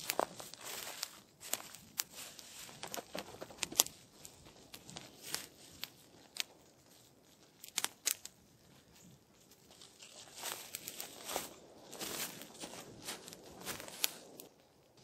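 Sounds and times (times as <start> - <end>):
tent fabric crinkling: 0.0 - 14.6
dry leaves and snow crunching: 0.0 - 15.0.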